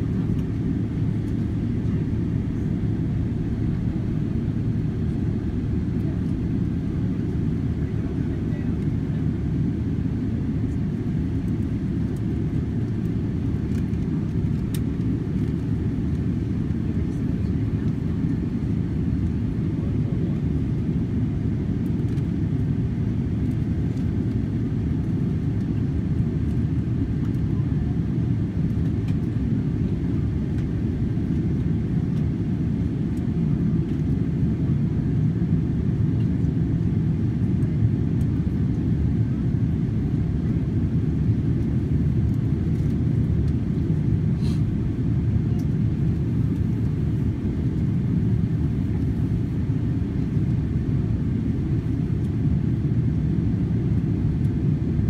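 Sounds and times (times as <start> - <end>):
airliner cabin low rumble: 0.0 - 55.0.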